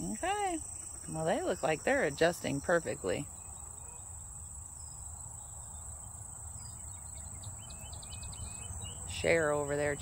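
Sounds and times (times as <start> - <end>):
faint high bird chirps: 0.0 - 10.0.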